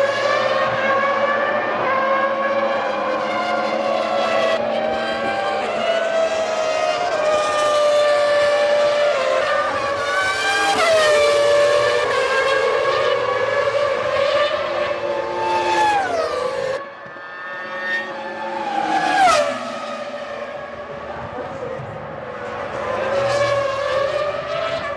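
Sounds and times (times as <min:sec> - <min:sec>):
racing car engines at high revs: 0:00.0 - 0:24.9
racing car passing downshifting: 0:00.0 - 0:24.9.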